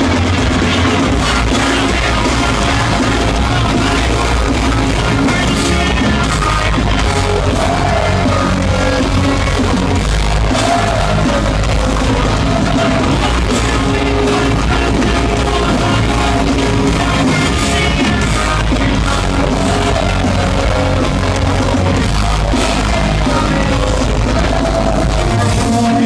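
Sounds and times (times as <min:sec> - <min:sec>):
live pop-punk band playing: 0:00.0 - 0:26.0.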